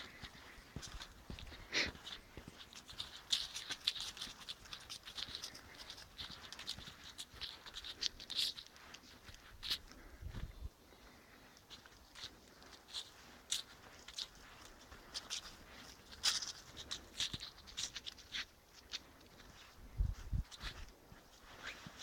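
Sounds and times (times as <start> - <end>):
footsteps crackling dry leaves: 0.0 - 22.0.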